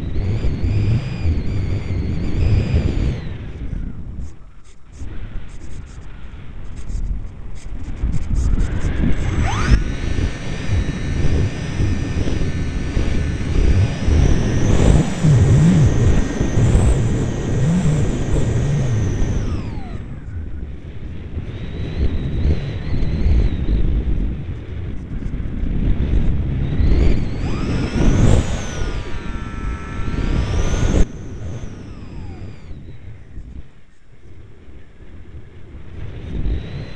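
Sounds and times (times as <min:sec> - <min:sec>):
model airplane motor whining: 0:00.0 - 0:36.9
wind buffeting microphone: 0:00.0 - 0:36.9.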